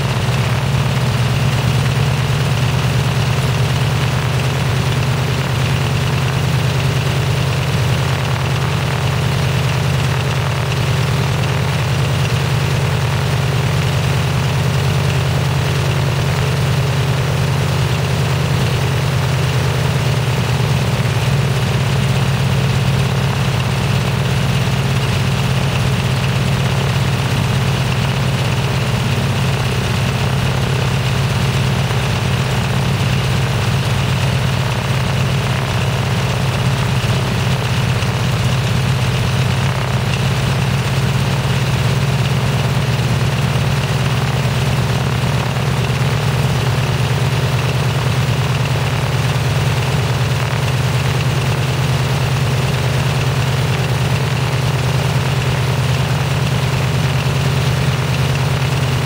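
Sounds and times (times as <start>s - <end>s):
radial aircraft engine idling: 0.0s - 59.0s.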